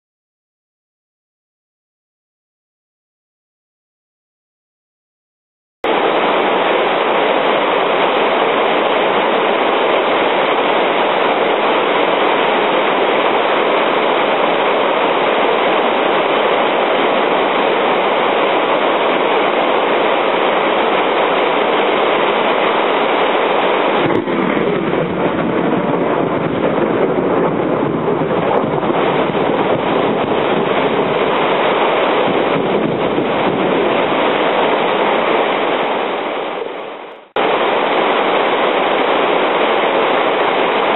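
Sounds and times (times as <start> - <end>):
heavy rain downpour: 5.8 - 40.9.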